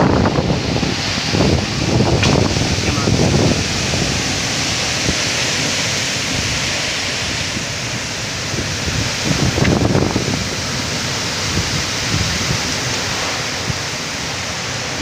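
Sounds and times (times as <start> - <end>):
heavy rain and wind: 0.0 - 15.0
wind gusts buffeting microphone: 0.0 - 15.0.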